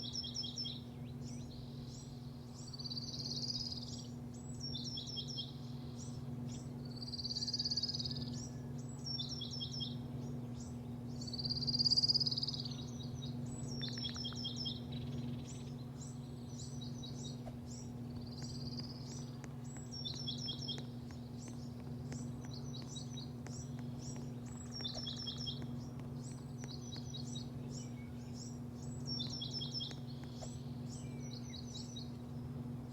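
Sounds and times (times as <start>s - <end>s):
low machine hum: 0.0s - 32.9s
small birds chirping: 0.0s - 32.9s.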